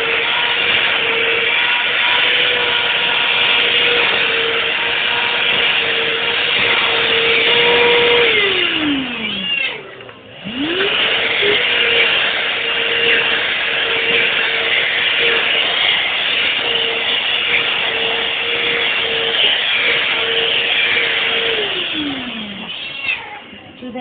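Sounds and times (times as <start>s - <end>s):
vacuum cleaner high whine: 0.0s - 24.0s.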